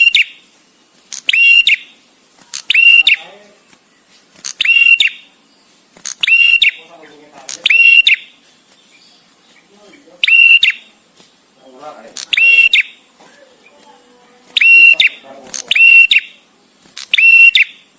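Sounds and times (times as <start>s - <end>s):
bird calling sharp high phrases: 0.0s - 17.9s.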